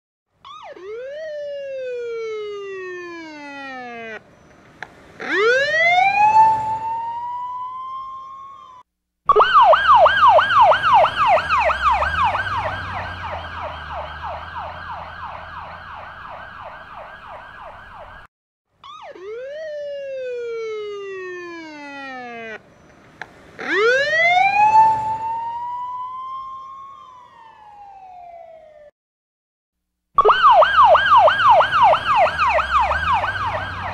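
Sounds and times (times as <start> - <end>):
siren wail: 0.4 - 22.9, 23.6 - 28.9, 30.2 - 33.9
rapid police siren yelp: 0.4 - 28.9, 30.2 - 33.9
rising siren wail: 0.5 - 28.9, 30.2 - 33.9.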